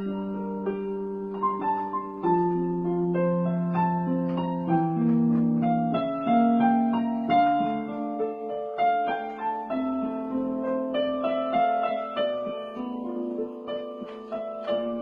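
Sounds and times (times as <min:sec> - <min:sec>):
slow piano piece: 0:00.0 - 0:15.0.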